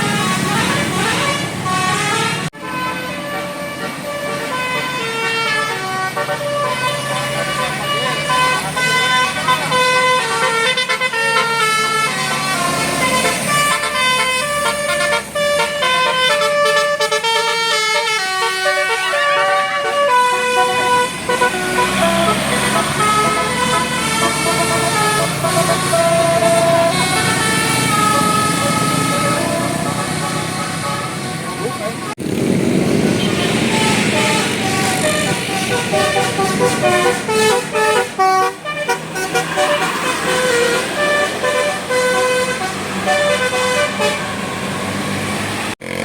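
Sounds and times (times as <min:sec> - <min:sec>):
bus musical air horn tune: 0:00.0 - 0:32.2, 0:33.1 - 0:44.8.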